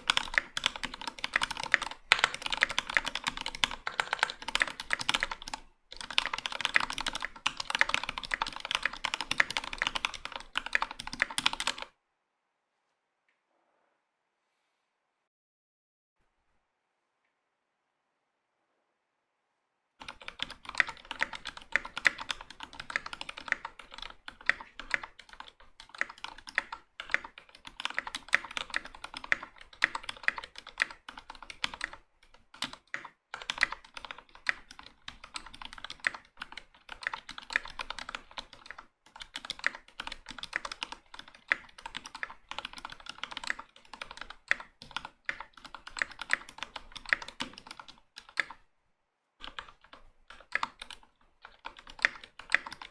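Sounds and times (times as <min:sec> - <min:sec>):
mechanical keyboard typing: 0:00.0 - 0:11.9, 0:20.0 - 0:48.6, 0:49.4 - 0:52.9.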